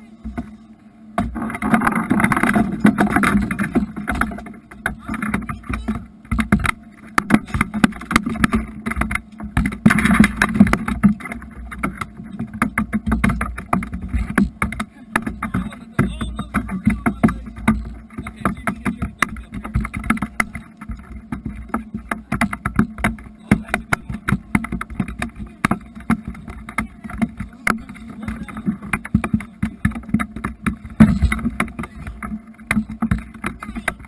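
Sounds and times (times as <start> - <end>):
water slapping boat hull: 0.0 - 34.0
knocks and bumps: 1.2 - 34.0.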